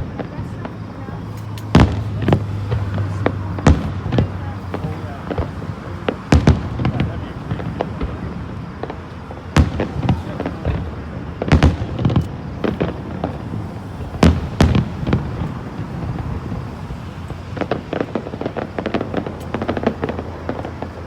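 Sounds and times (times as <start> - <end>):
crackling firework pops: 0.0 - 21.0.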